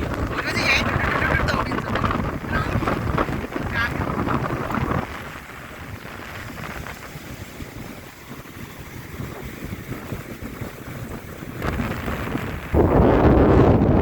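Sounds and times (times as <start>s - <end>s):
surf: 0.0s - 14.0s
wind buffeting microphone: 0.0s - 14.0s.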